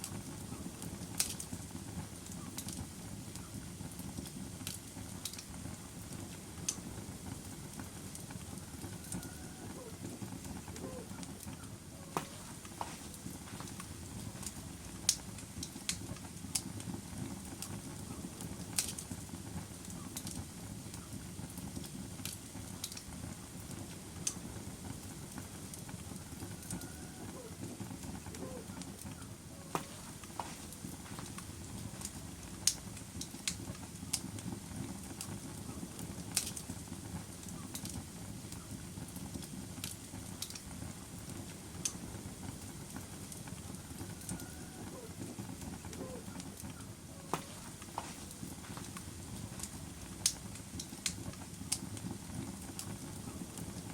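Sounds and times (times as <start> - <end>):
fire crackles and pops: 0.0 - 53.9
rush of fire flames: 0.0 - 53.9.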